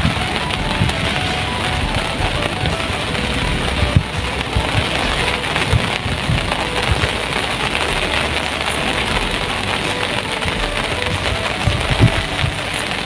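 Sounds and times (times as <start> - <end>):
heavy rain hissing: 0.0 - 13.0
low thumps: 0.0 - 13.0.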